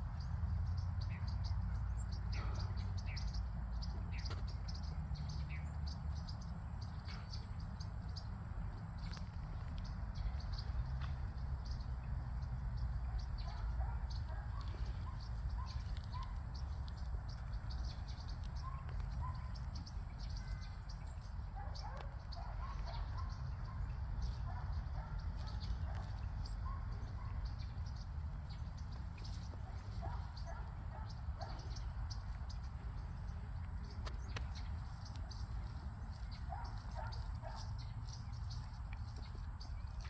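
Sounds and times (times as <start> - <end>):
small birds chirping: 0.0 - 40.0
steady low rumble: 0.0 - 40.0.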